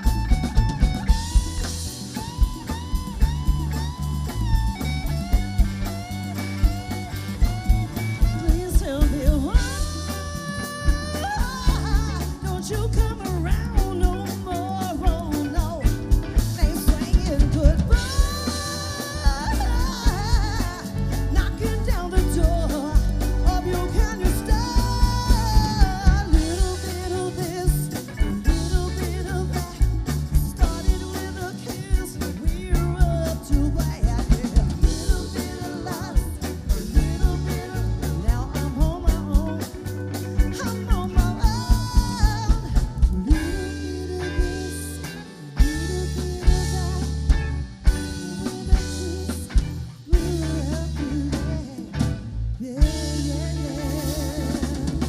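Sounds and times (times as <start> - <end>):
wavering lead melody: 0.0 - 51.9
live pop-rock band: 0.0 - 55.0.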